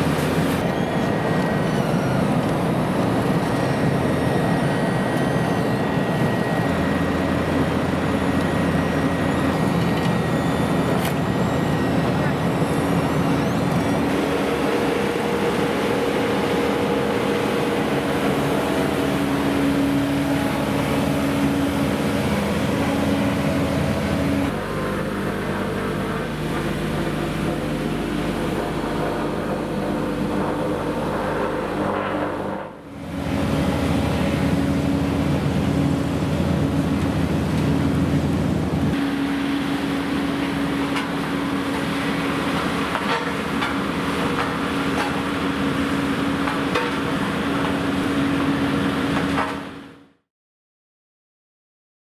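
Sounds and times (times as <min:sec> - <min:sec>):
vehicle engine running: 0:06.8 - 0:49.4.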